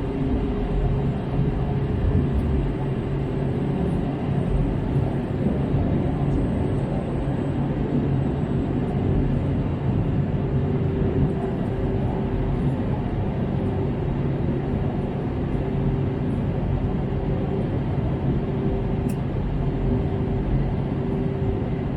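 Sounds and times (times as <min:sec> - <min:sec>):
aircraft cabin engine rumble: 0:00.0 - 0:21.9.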